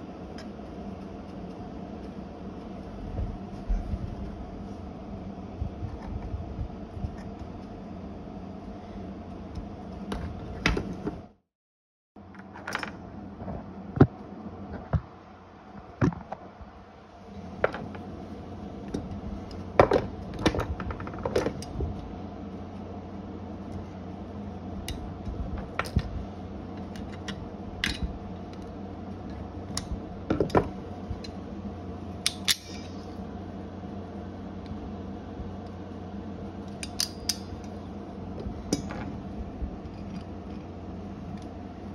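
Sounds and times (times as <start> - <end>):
steady background hum: 0.0 - 11.5, 12.2 - 41.9.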